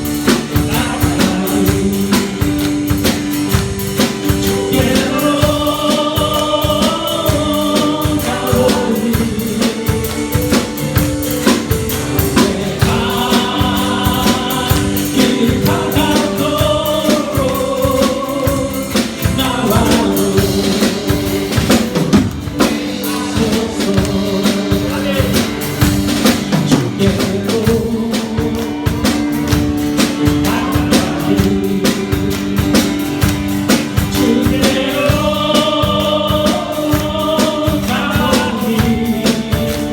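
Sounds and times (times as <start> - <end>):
congregation singing: 0.0 - 39.9
drum kit beat: 0.0 - 39.9
keyboard chords: 0.0 - 39.9.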